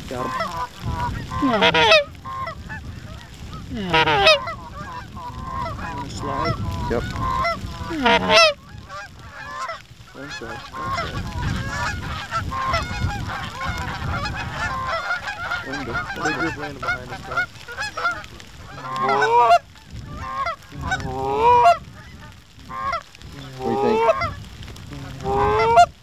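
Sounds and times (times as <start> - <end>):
geese honking: 0.0 - 26.0
goose calls honking: 0.0 - 26.0.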